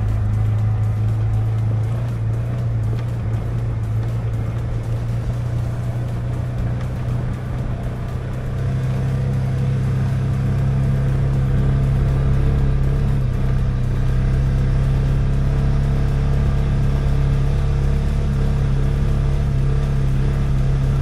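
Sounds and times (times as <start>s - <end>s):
utility vehicle engine driving: 0.0s - 21.0s.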